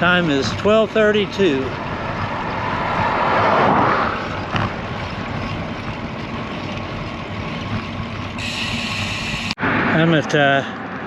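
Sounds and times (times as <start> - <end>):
bicycle road noise: 0.0 - 11.0
rushing wind: 0.0 - 11.0.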